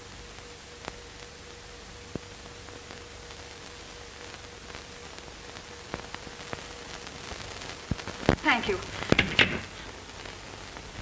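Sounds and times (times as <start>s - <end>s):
crackle clicks: 0.0s - 11.0s
faint hum: 0.0s - 11.0s
steady hiss: 0.0s - 11.0s.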